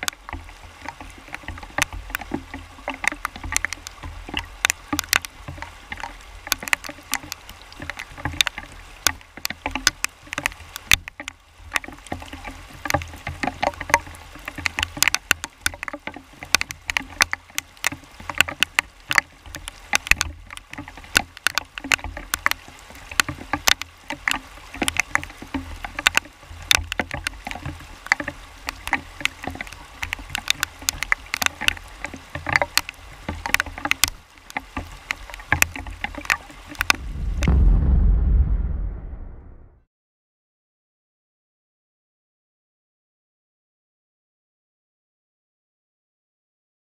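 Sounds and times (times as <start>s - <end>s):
river rushing over rocks: 0.0s - 38.0s
water splashing: 0.0s - 39.6s.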